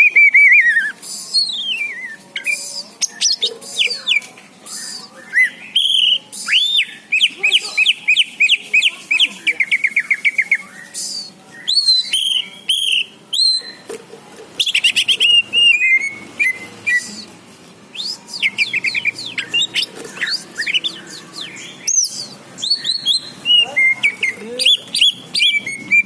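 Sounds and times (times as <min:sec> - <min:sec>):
songbird singing chirps and trills: 0:00.0 - 0:26.0.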